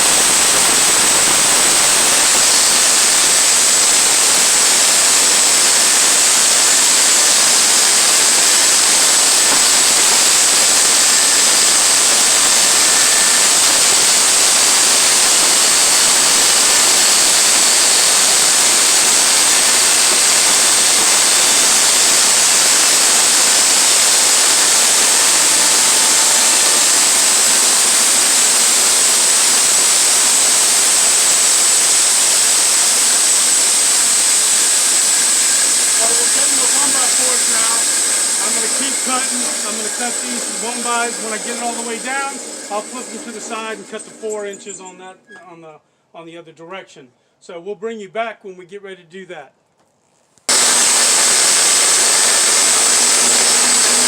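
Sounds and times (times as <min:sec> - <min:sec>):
band saw cutting log: 0:00.0 - 0:45.4, 0:50.5 - 0:54.0.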